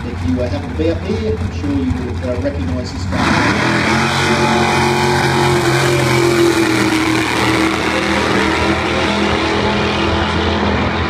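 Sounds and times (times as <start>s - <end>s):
racing car engine running hard: 0.0s - 11.0s.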